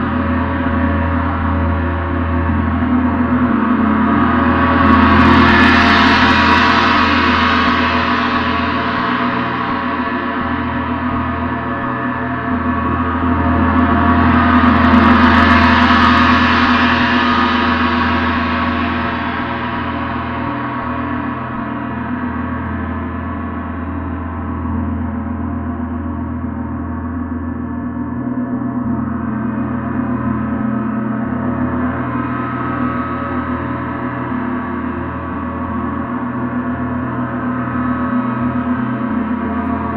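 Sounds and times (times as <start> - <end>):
gong wash: 0.0 - 39.9.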